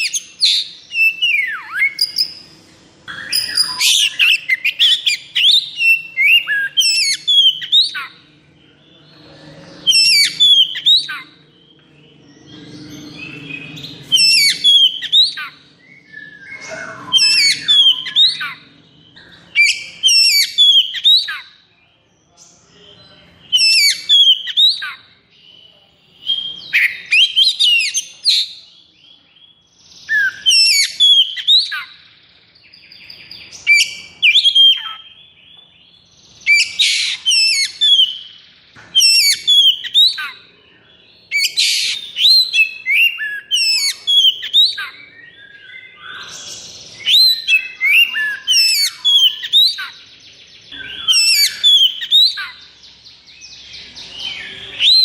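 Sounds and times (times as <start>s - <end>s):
bird singing whistles and rasps: 0.0s - 55.0s.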